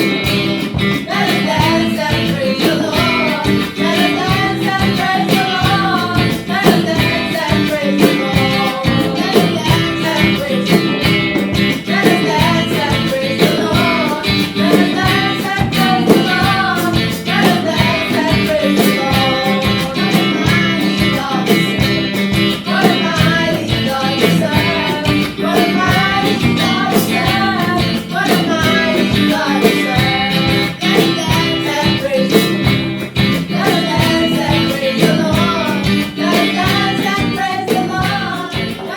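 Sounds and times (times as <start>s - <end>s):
singing over guitar and beat: 0.0s - 38.9s.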